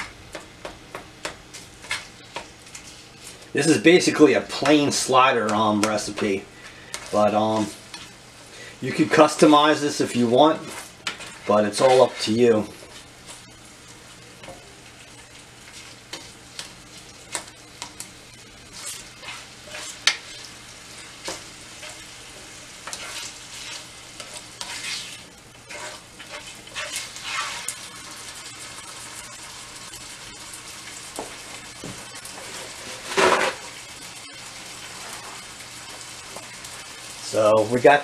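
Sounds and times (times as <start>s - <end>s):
meat sizzling in a pan: 1.2s - 38.0s.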